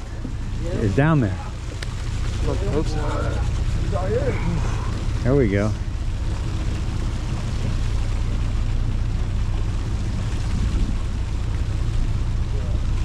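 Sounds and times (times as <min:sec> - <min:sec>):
boat engine droning: 0:00.0 - 0:13.0
wind and water noise: 0:00.0 - 0:13.0.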